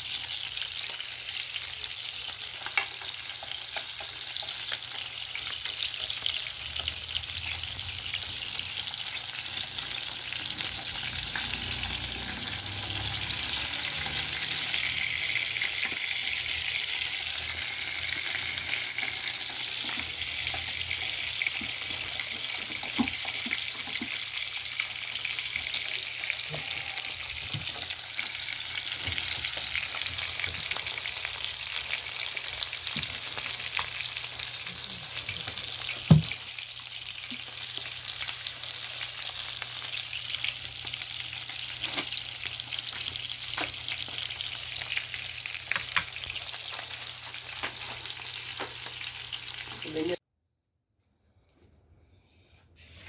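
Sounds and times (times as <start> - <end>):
fish sizzling in oil: 0.0 - 50.2.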